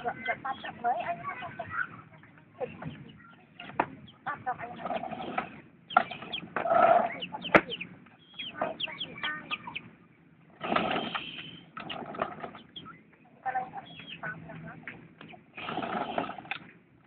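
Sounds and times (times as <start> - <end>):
chickens clucking: 0.0 - 16.7.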